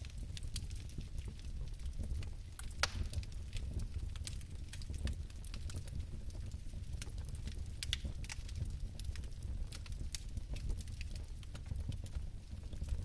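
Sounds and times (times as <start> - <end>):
fire crackling and popping: 0.0 - 13.0
low rumble of flame: 0.0 - 13.0.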